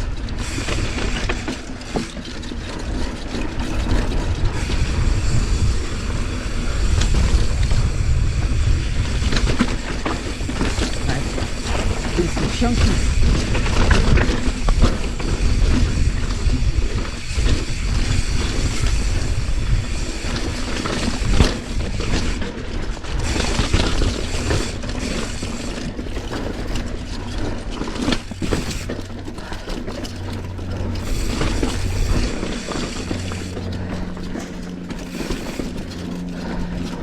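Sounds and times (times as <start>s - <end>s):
bike clattering: 0.0s - 37.0s
bike tyres rattling over rock: 0.0s - 37.0s.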